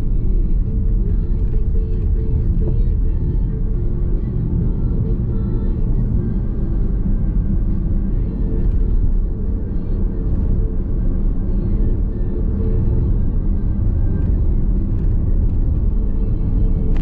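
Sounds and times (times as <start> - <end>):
road and tyre rumble in car: 0.0 - 17.0.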